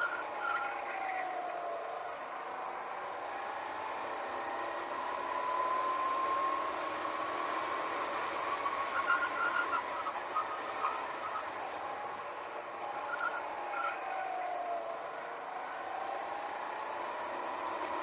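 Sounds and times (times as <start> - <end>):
go-kart engine: 0.0 - 18.0.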